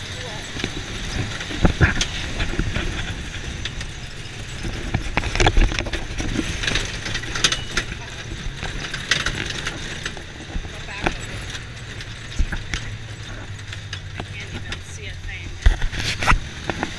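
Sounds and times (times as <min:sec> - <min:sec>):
body clunks and rattles: 0:00.0 - 0:16.9
low engine rumble: 0:00.0 - 0:16.9
wind noise: 0:00.0 - 0:16.9.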